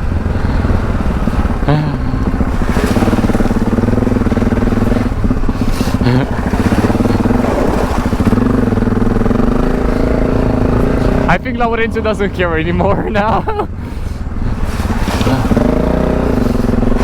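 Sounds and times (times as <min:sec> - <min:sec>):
motorcycle engine under throttle: 0:00.0 - 0:12.9, 0:13.7 - 0:17.0.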